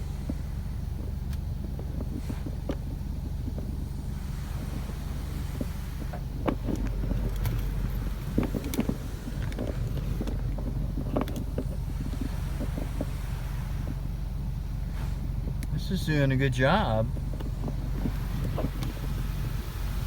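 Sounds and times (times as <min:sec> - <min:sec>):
car wash low hum: 0:00.0 - 0:20.0.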